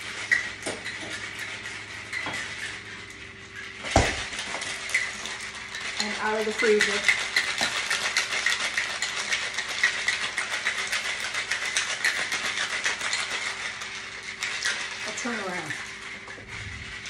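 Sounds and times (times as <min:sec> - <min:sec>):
ice rattling in cocktail shaker: 0:00.0 - 0:17.0.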